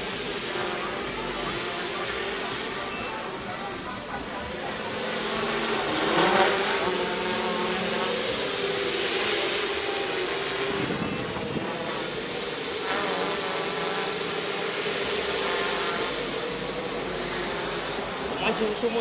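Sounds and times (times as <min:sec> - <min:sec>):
quadcopter propellers buzzing: 0:00.0 - 0:19.0.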